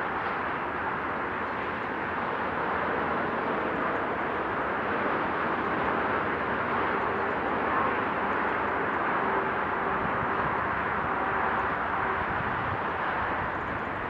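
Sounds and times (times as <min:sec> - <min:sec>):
motorway traffic hum: 0:00.0 - 0:14.0.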